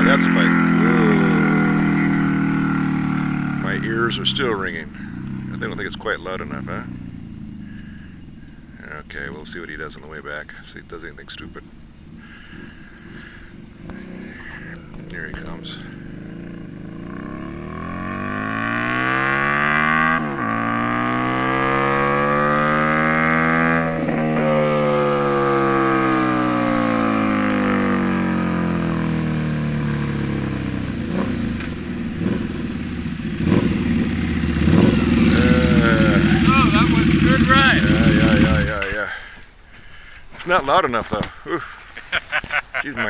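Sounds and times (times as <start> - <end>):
motorcycle accelerating and passing: 0.0 - 9.5, 11.8 - 39.0
gear changes: 0.0 - 10.3, 10.9 - 43.0.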